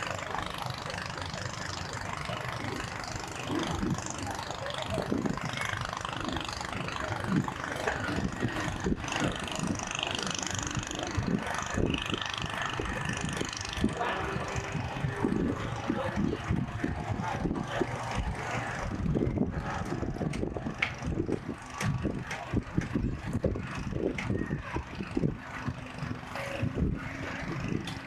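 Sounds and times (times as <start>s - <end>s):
vehicle engines passing: 0.0s - 28.0s
voices: 0.0s - 28.0s.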